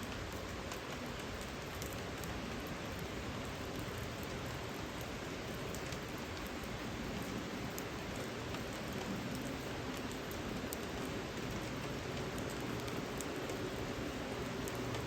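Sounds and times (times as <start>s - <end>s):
sharp rain drop ticks: 0.0s - 15.0s
steady rain falling: 0.0s - 15.0s.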